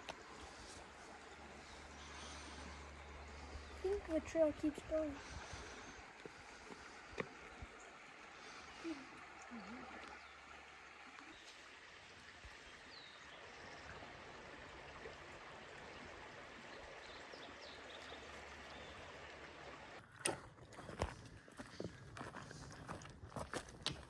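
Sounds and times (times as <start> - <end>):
creek running over rocks: 0.0 - 24.0.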